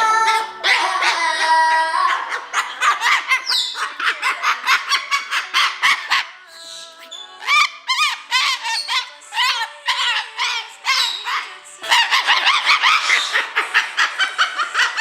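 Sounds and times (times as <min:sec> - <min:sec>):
parrot squawks: 0:00.0 - 0:15.0.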